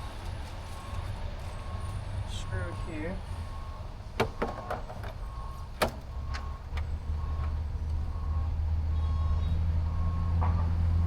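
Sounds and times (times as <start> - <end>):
low engine hum: 0.0 - 11.0
vehicle reversing alarm beeps: 0.0 - 11.0.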